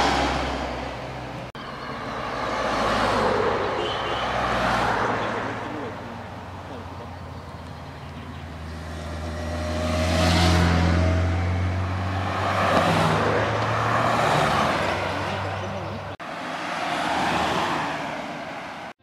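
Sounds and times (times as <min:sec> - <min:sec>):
motorcycle passing: 0:00.0 - 0:18.7
cars passing: 0:00.0 - 0:19.0.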